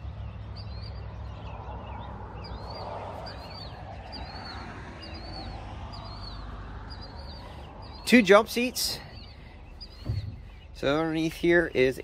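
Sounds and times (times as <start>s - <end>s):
bird high chirps: 0.0s - 12.0s.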